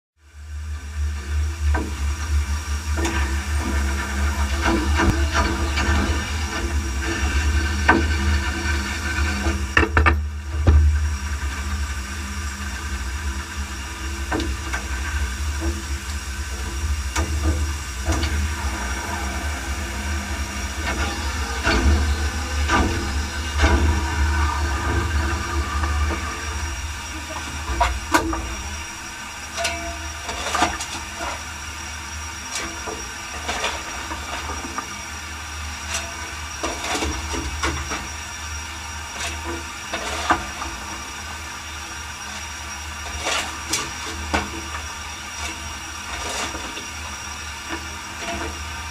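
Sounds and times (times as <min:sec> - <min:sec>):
low locomotive rumble: 0:00.2 - 0:48.9
steam hissing: 0:00.3 - 0:48.9.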